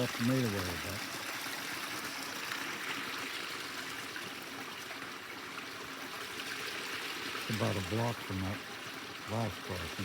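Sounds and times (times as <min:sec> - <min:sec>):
water running through a pipe: 0:00.0 - 0:10.0.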